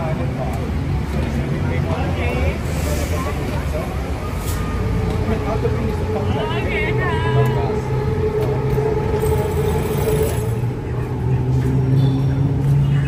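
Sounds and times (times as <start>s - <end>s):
road traffic: 0.0s - 13.0s
vehicle engine humming close by: 0.0s - 13.0s.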